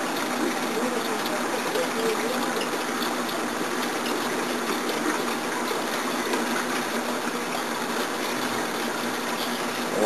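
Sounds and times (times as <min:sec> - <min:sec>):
aquarium water rushing: 0:00.0 - 0:10.0.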